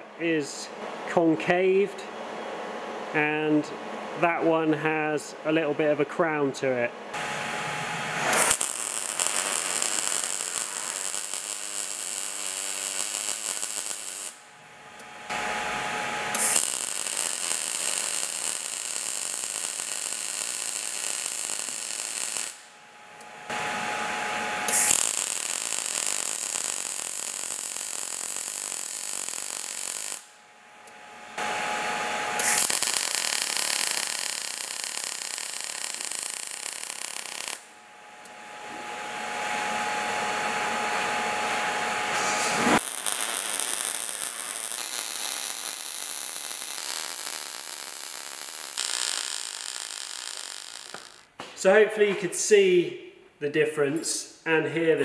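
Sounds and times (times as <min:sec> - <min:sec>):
welding arc buzzing: 0:07.1 - 0:51.4.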